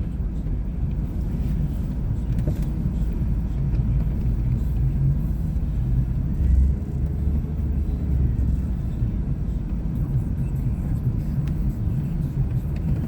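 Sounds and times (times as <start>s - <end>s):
engine and tyre rumble in snow: 0.0s - 13.0s.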